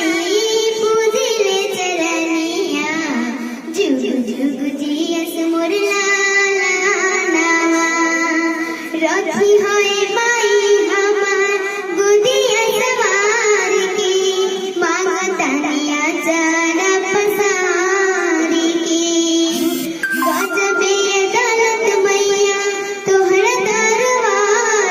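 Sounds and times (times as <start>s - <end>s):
girl singing: 0.0s - 8.3s, 8.9s - 24.9s.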